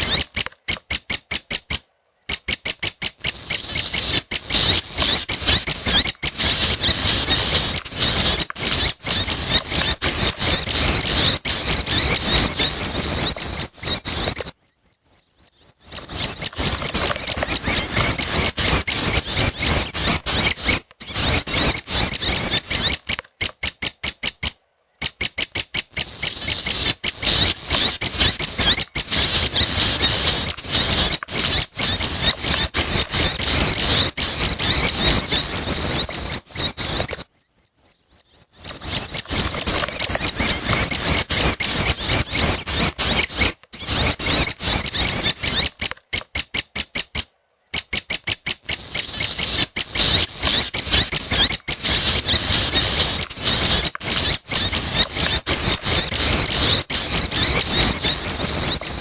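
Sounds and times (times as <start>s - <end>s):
bird chicks chirping: 0.0s - 59.0s.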